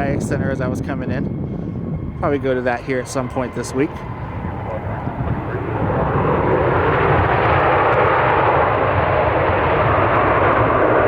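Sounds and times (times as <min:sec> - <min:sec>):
jet aircraft engines passing: 0:00.0 - 0:11.0.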